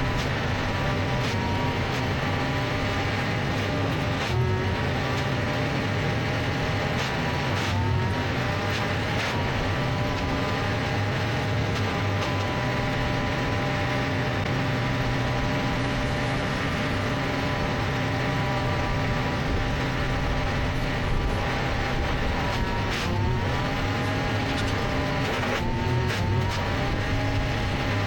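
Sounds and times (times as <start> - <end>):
machine engine running: 0.0 - 28.0.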